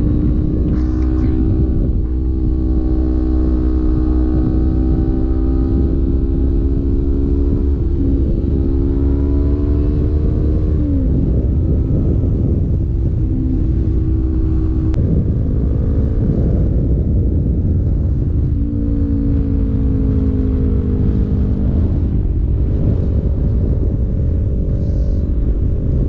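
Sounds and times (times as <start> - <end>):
motorcycle engine accelerating: 0.0 - 26.0
wind rumble on microphone: 0.0 - 26.0.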